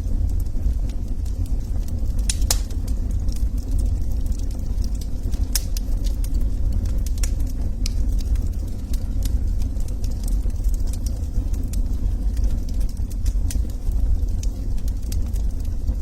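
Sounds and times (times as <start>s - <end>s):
logs crackling in fireplace: 0.0s - 16.0s
low rumble of flames: 0.0s - 16.0s.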